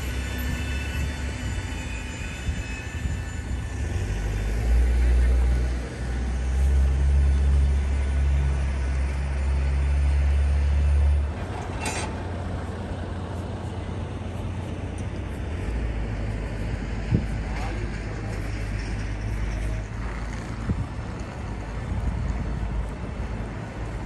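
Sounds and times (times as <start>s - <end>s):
heavy low rumble: 2.4s - 24.0s.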